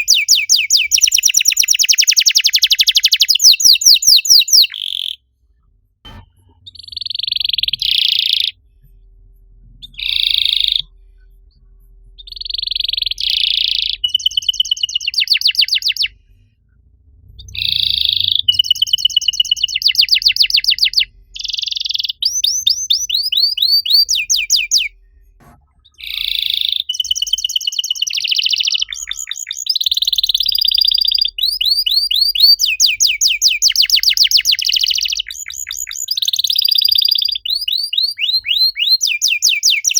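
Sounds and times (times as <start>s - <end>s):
canary singing trills: 0.0s - 5.2s, 6.1s - 8.6s, 9.8s - 16.2s, 17.4s - 24.9s, 25.7s - 39.9s.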